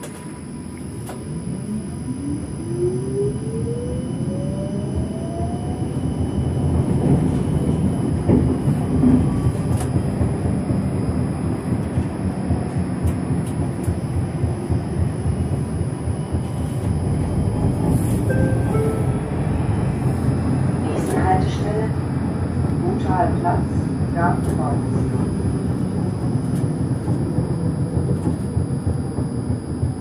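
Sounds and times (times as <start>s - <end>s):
tram motor whine: 0.0s - 30.0s
tram rolling on track: 0.0s - 30.0s.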